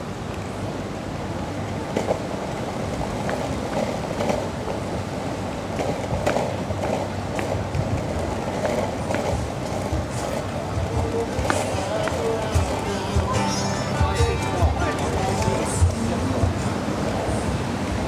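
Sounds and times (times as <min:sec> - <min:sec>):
longboard wheels rolling on asphalt: 0:00.0 - 0:18.0.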